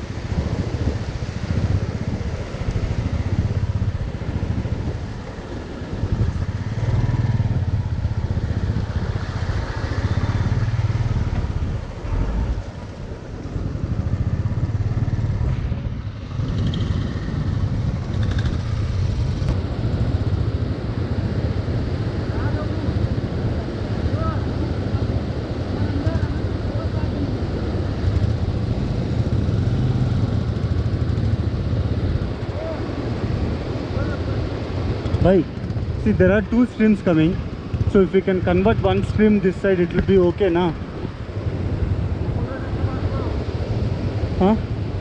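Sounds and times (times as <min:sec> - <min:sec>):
motorcycle engine running: 0:00.4 - 0:39.4.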